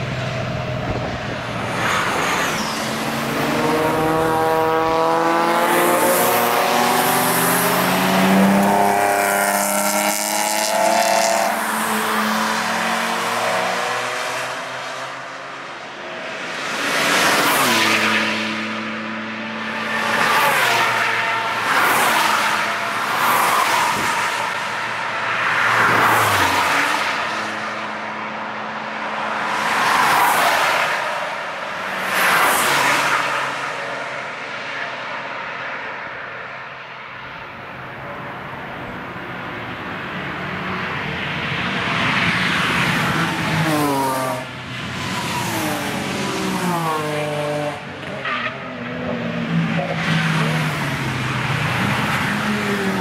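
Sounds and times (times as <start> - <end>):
cars driving past at speed: 0.0 - 37.6, 38.4 - 53.0.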